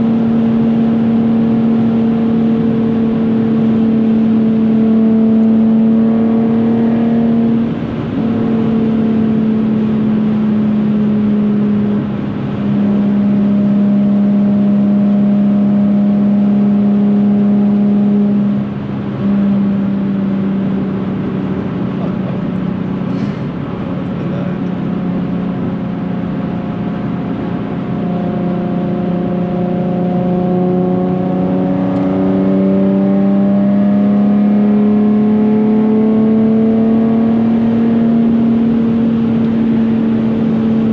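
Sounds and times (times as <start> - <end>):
car engine droning in cabin: 0.0 - 40.9.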